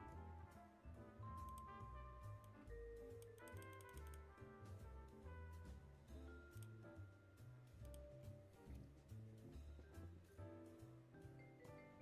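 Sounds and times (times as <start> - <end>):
quiet instrumental music: 0.0 - 12.0.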